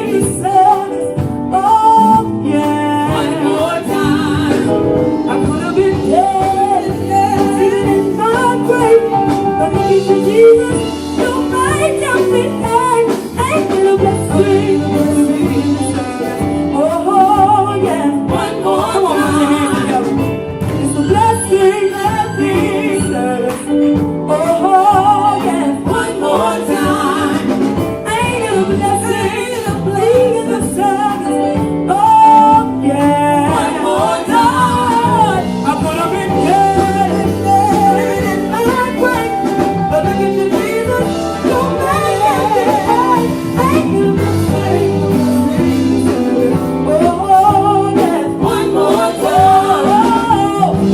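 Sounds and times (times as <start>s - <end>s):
instrumental backing: 0.0s - 50.9s
women singing gospel song: 0.0s - 50.9s.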